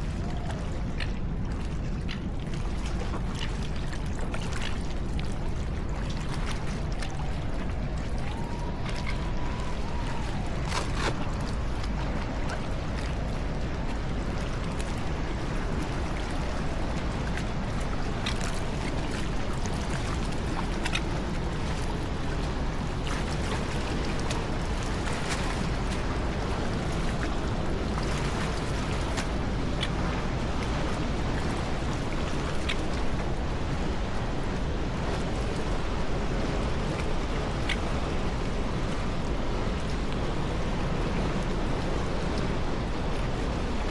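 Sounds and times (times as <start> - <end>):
small splashes and drips: 0.0 - 34.0, 35.0 - 43.9
water rushing around a kayak: 0.0 - 43.9.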